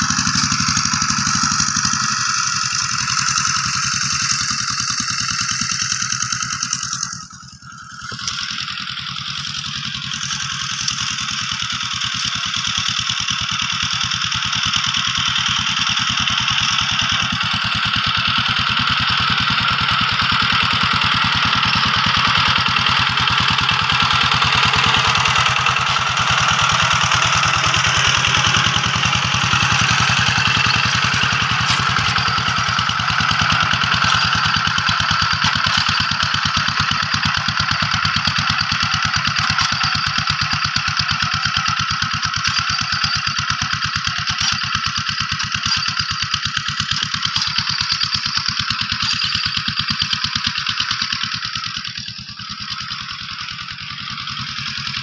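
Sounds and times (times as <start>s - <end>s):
hand tractor engine under load: 0.0s - 55.0s.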